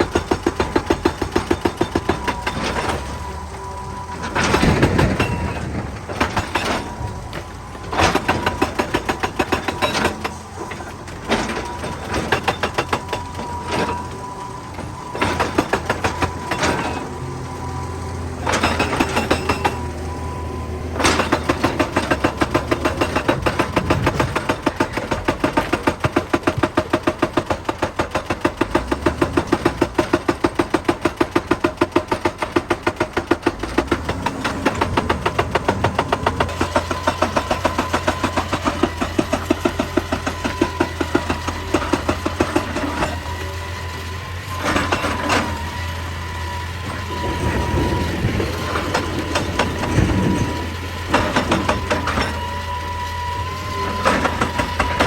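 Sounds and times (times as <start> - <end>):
diesel engine humming: 0.0 - 27.2, 28.7 - 55.0
hydraulic rock breaker hammering: 0.0 - 55.0.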